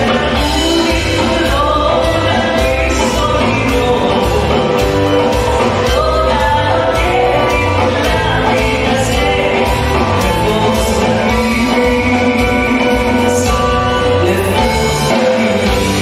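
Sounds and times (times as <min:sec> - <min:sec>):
band playing: 0:00.0 - 0:16.0
woman singing: 0:00.0 - 0:16.0.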